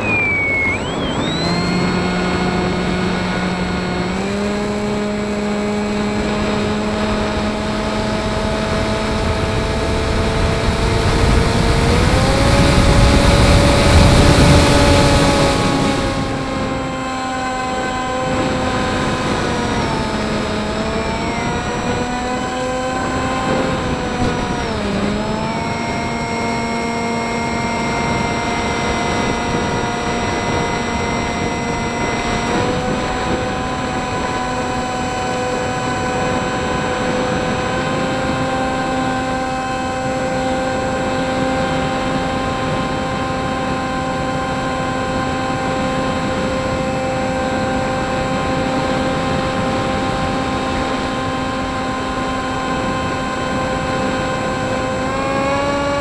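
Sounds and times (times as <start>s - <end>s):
model plane motor whining: 0.0s - 56.0s
wind rushing over microphone: 0.0s - 56.0s.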